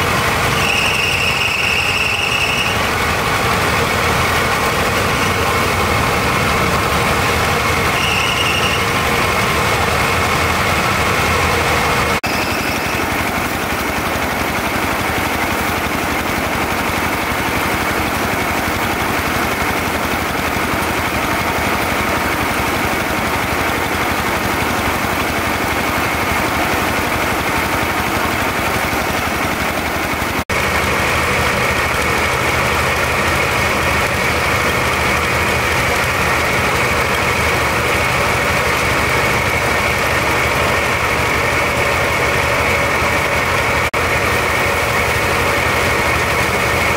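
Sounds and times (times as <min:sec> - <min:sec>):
threshing machine engine droning: 0:00.0 - 0:46.9.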